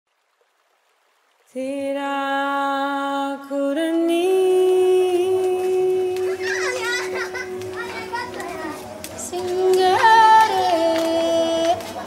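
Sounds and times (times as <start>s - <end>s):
person singing long held notes: 1.5s - 12.0s.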